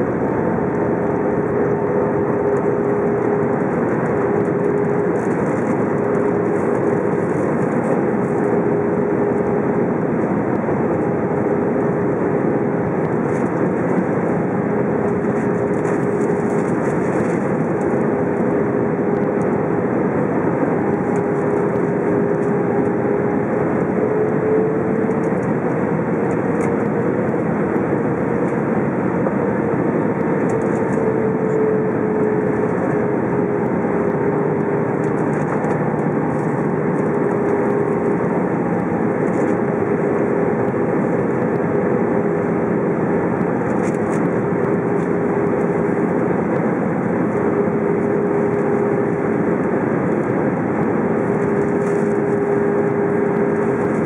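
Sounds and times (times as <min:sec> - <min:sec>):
airplane cabin roar: 0:00.0 - 0:54.0
jet engine hum: 0:00.0 - 0:54.0.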